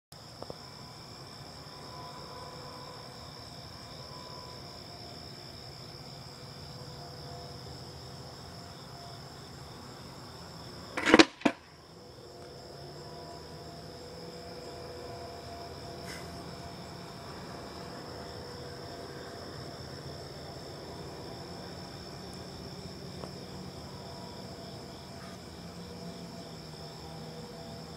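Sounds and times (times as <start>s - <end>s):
high-pitched insect trill: 0.2s - 27.9s.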